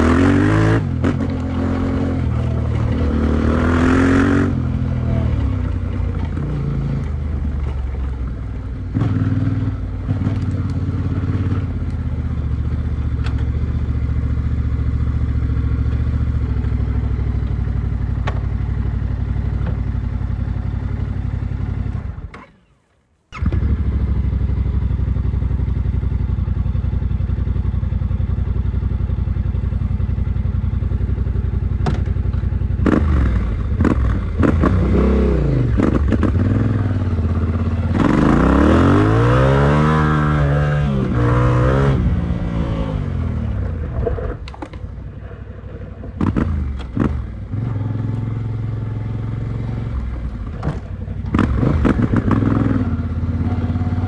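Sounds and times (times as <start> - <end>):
motorcycle engine running: 0.0 - 22.3, 23.3 - 54.0.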